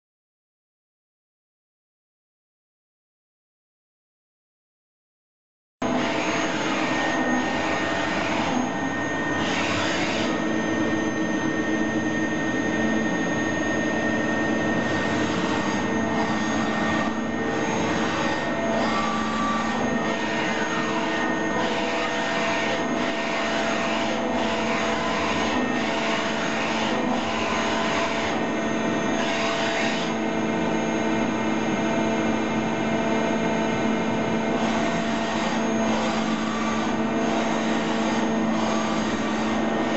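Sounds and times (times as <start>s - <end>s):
machine hum: 5.8s - 39.9s.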